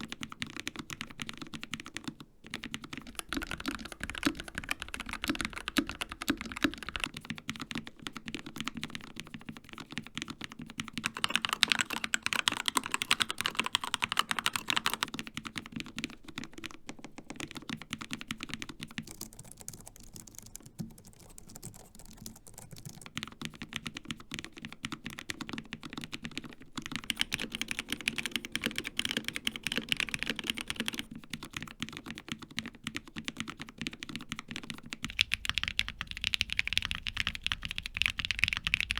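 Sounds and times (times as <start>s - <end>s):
fast typing on keyboards: 0.0s - 38.9s.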